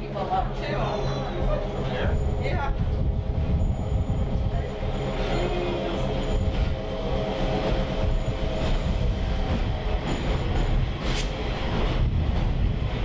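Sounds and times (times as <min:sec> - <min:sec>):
diesel locomotive engine droning: 0:00.0 - 0:13.0
wheels rumbling on rail: 0:00.0 - 0:13.0.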